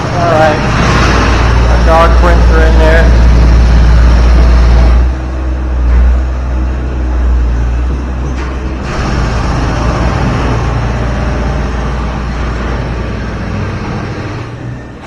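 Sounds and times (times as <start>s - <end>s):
low motor-like hum: 0.0s - 15.0s.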